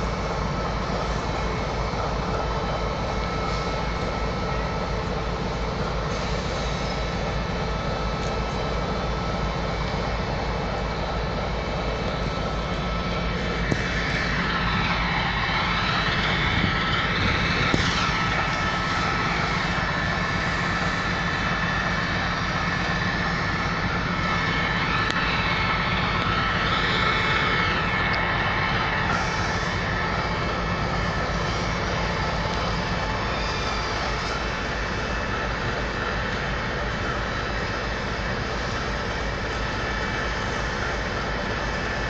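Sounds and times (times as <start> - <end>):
rising and falling train whine: 0.0 - 42.0
train running rumble: 0.0 - 42.0.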